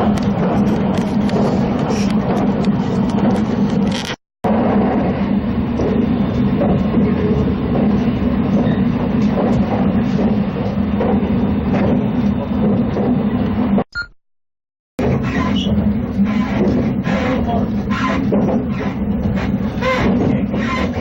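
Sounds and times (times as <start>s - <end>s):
train rumbling along rails: 0.0s - 13.9s, 15.0s - 21.0s.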